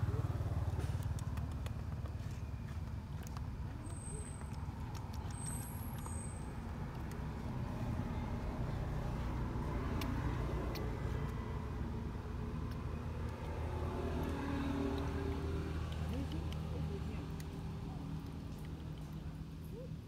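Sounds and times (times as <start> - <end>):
distant engine rumble: 0.0 - 20.0.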